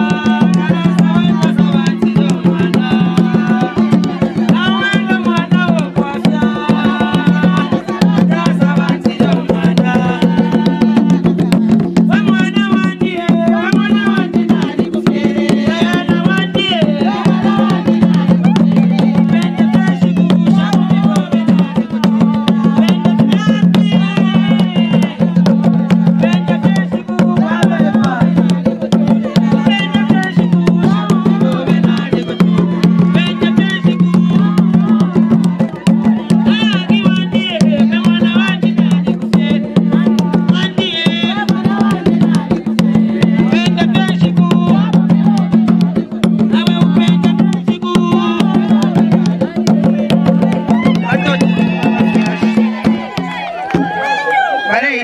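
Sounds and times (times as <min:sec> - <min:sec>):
voices singing: 0:00.0 - 0:54.4
wooden hand drums playing fast: 0:00.0 - 0:55.0.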